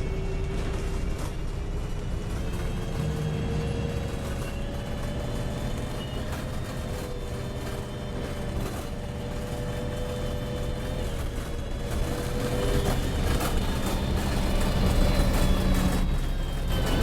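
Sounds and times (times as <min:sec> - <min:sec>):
bus engine rumble: 0:00.0 - 0:17.0
constant whine: 0:00.0 - 0:17.0.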